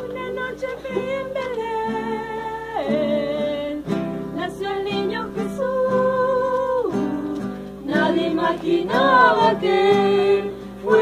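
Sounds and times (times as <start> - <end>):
strummed acoustic guitar: 0.0 - 11.0
voices singing a hymn: 0.0 - 11.0.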